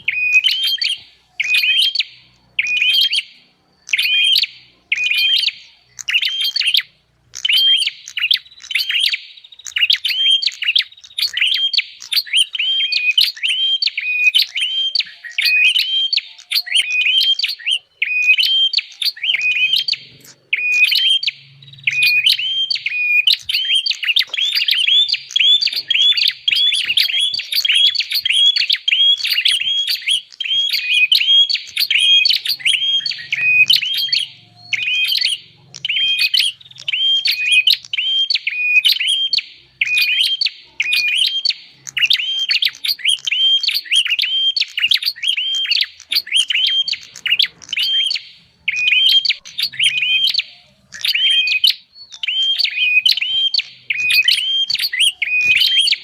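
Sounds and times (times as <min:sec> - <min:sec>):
high sharp bird chirps: 0:00.0 - 0:56.0.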